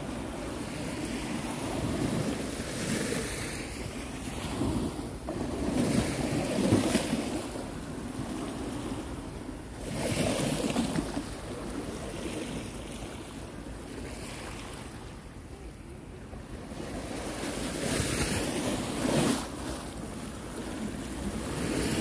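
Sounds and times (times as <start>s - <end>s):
waves washing against seawall: 0.0s - 22.0s.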